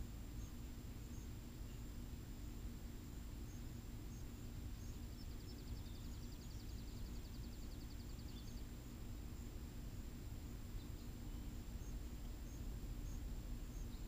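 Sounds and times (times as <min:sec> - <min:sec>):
low outdoor hum: 0:00.0 - 0:14.0.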